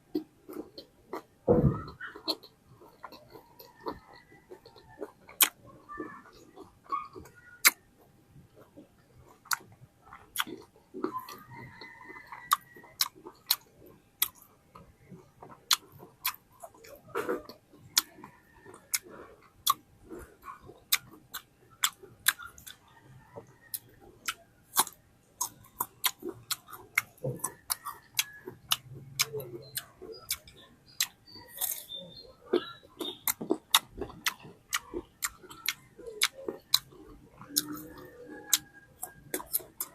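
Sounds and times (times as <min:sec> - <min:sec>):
chewing juicy fruit: 0:00.0 - 0:39.9.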